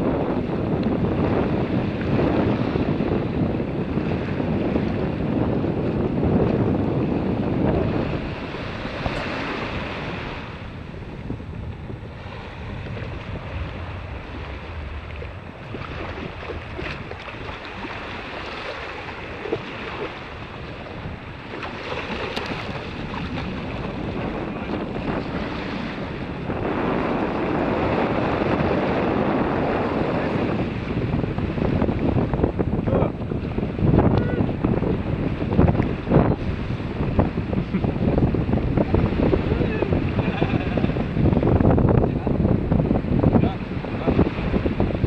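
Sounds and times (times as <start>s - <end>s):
wind buffeting microphone: 0.0s - 45.0s
small waves washing over sand: 5.8s - 45.0s.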